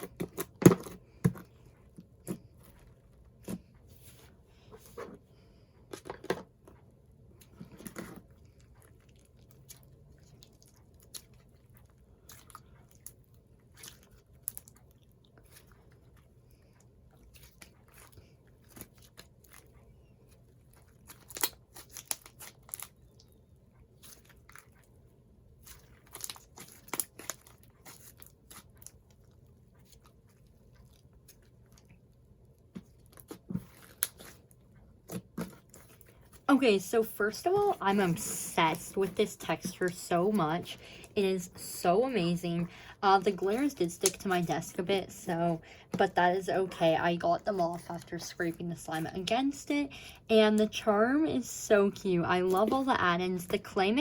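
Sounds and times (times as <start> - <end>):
slime being kneaded and squished: 7.3 - 54.0.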